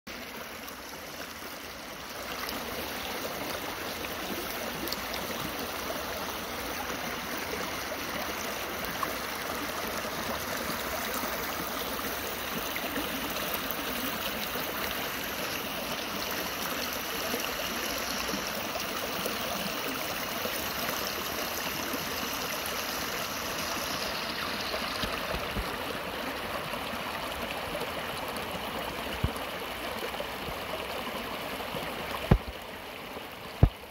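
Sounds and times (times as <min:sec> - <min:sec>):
stream rushing over rocks: 0:00.1 - 0:33.9.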